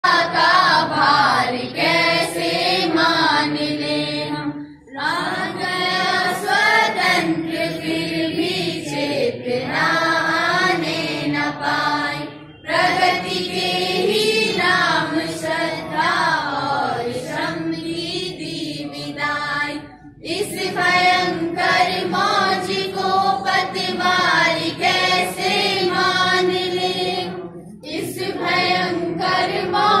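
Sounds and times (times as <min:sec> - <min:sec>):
students singing a prayer: 0:00.0 - 0:30.0.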